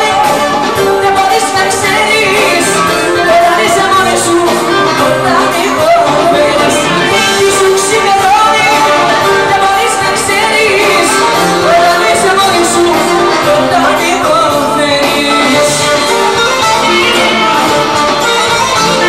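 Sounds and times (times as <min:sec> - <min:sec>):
drums: 0:00.0 - 0:19.0
electric bass: 0:00.0 - 0:19.0
violin: 0:00.0 - 0:19.0
woman singing into a microphone: 0:00.0 - 0:19.0.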